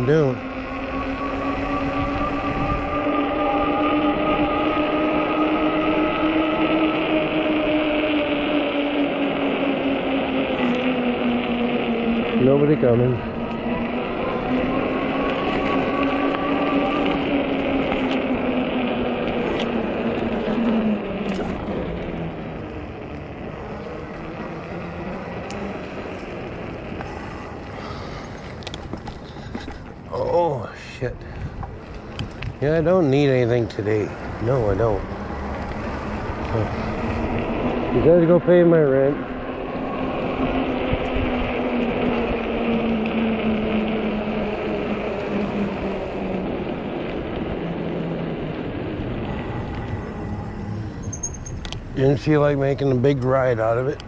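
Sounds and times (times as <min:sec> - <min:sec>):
bike rolling on pavement: 0:00.0 - 0:54.0
electric motor whining: 0:00.0 - 0:54.0
wind: 0:00.0 - 0:54.0.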